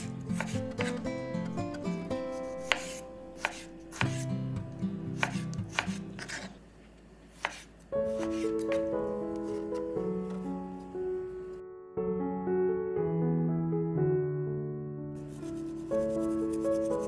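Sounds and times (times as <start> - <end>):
soft background music: 0.0 - 6.5, 7.4 - 17.0.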